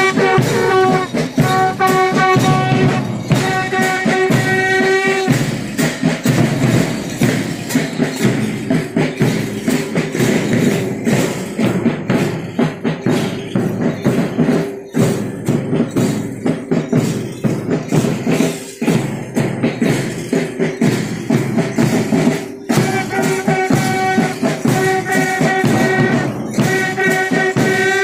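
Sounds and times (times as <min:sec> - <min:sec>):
bass drum: 0:00.0 - 0:28.0
cymbals: 0:00.0 - 0:28.0
snare drums: 0:00.0 - 0:28.0.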